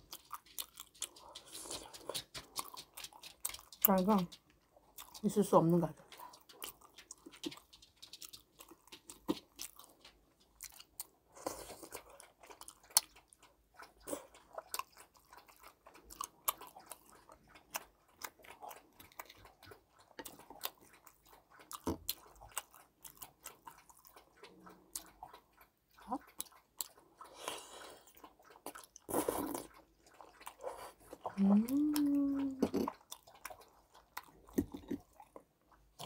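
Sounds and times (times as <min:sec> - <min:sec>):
chewing and crunching food: 0:00.0 - 0:36.0.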